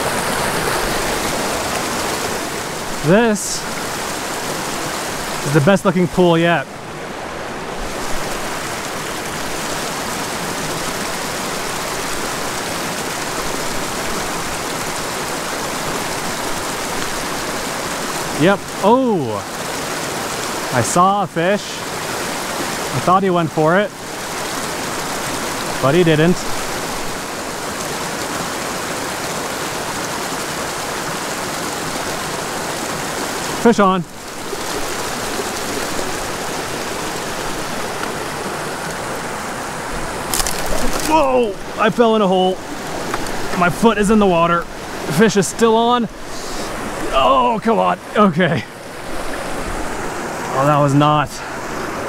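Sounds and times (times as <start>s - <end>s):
creek rushing over rocks: 0.0s - 52.0s.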